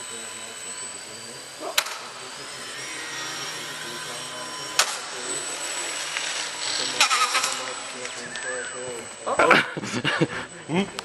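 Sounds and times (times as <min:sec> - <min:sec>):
rc plane motor whining: 0:00.0 - 0:11.0.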